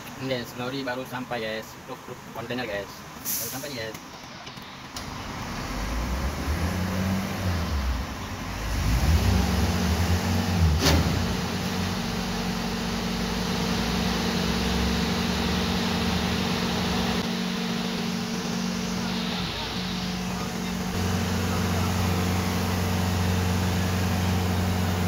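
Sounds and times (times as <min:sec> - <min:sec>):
diesel truck engine running: 0:04.0 - 0:25.0.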